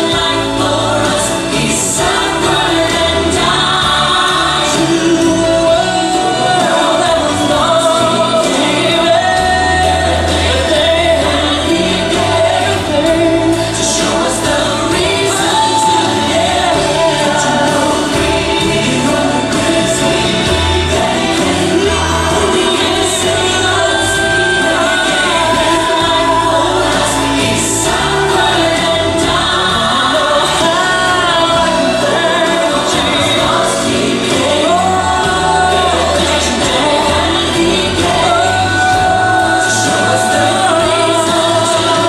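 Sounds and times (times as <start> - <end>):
worship song with singing: 0.0 - 42.0.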